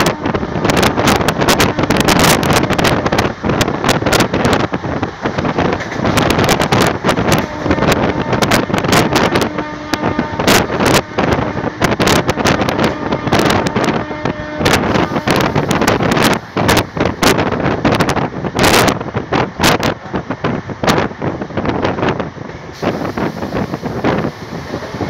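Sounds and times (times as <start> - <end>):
train running on track: 0.0 - 25.0
wind buffeting microphone: 0.0 - 25.0.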